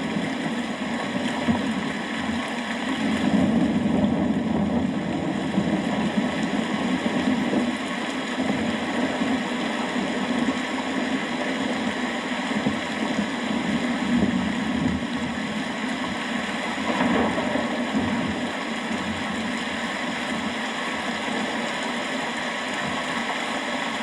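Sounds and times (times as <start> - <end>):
continuous low rumble: 0.0 - 24.0
rain falling steadily: 0.0 - 24.0.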